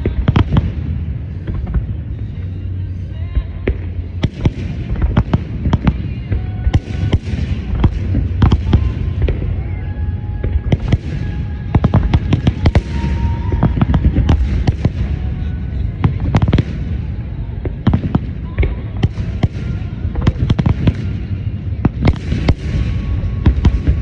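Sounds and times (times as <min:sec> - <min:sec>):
continuous low rumble: 0:00.0 - 0:24.0
fireworks bursting with crackle: 0:00.0 - 0:24.0.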